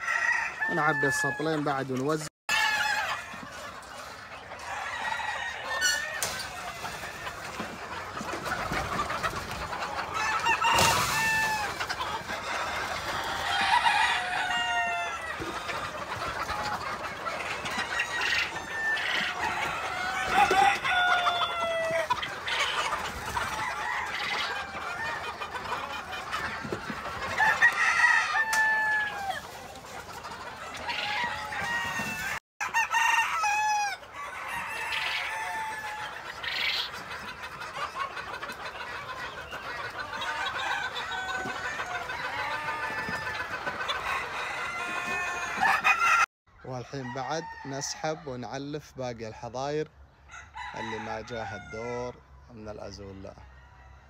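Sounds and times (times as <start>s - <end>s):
chickens clucking: 0.0s - 54.0s
roosters crowing: 0.0s - 54.0s.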